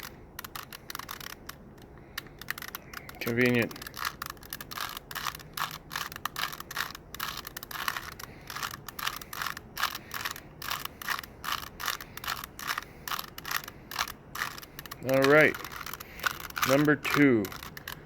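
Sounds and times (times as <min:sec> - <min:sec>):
puzzle cube plastic clicks: 0:00.0 - 0:18.0.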